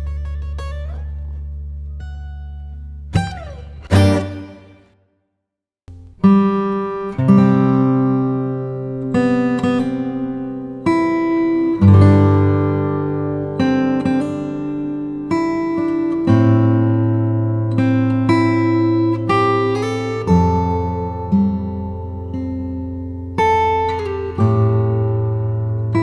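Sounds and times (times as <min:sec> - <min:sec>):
plucked guitar music: 0:00.0 - 0:05.0, 0:05.9 - 0:26.0.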